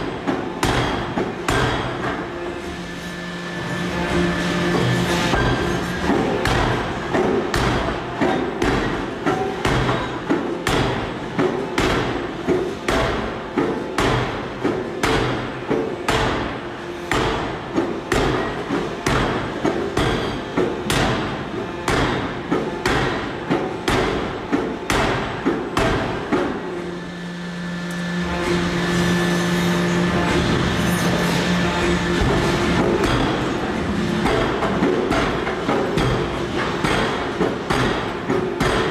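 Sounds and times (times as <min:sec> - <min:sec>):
power hammer striking steel: 0:00.0 - 0:02.3, 0:04.8 - 0:26.5, 0:30.3 - 0:38.9.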